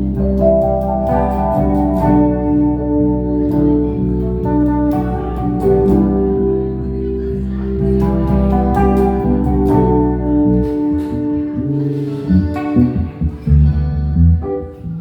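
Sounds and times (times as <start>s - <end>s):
guitar: 0.0s - 15.0s
sustained bass and chord notes: 0.0s - 15.0s.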